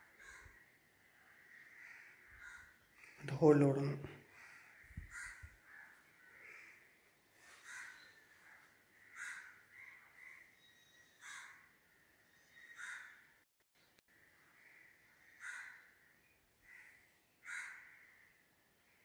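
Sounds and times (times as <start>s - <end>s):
bird cawing: 0.0s - 3.2s, 4.2s - 11.8s, 12.4s - 13.3s, 14.3s - 19.0s.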